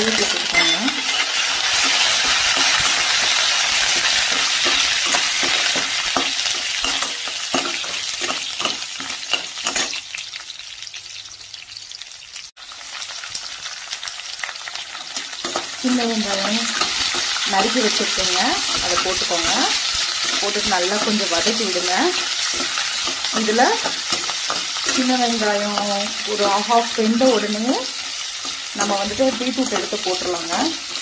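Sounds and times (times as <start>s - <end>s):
hot oil sizzling in a pan: 0.0s - 31.0s.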